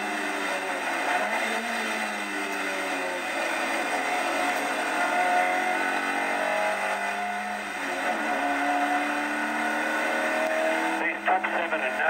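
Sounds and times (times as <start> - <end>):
race car engine under load: 0.0 - 12.0.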